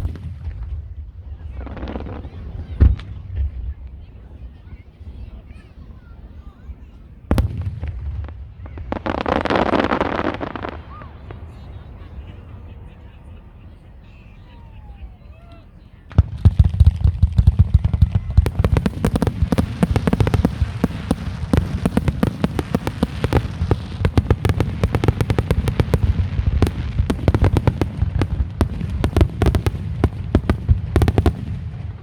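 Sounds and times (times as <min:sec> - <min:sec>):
fireworks bursts and bangs: 0:00.0 - 0:32.0.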